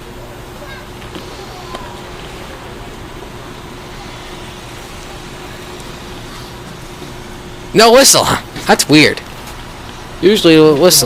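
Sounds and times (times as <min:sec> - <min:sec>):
electric train rumbling: 0:00.0 - 0:11.0
faint constant hum: 0:00.0 - 0:11.0.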